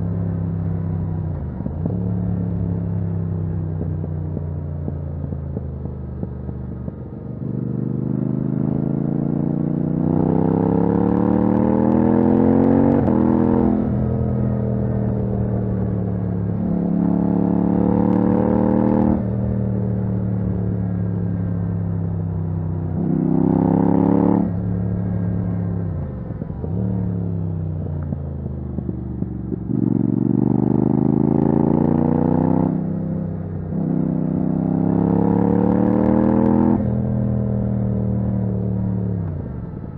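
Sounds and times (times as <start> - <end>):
motorcycle engine accelerating hard: 0.0 - 39.9.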